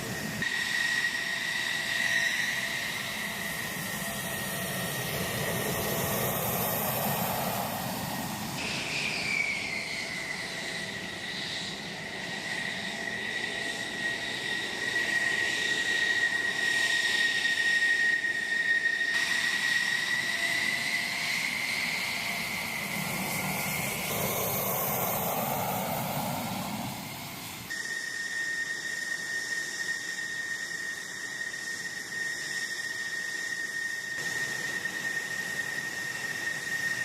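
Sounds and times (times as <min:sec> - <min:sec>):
jet engine whine: 0:00.0 - 0:37.0.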